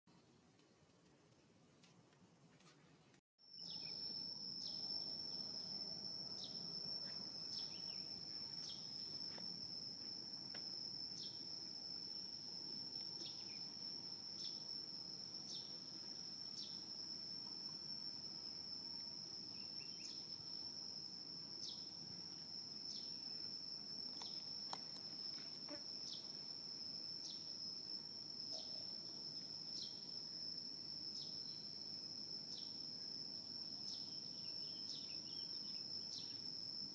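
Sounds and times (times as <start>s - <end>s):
faint outdoor background noise: 0.1s - 36.9s
insects singing high note: 3.5s - 36.9s.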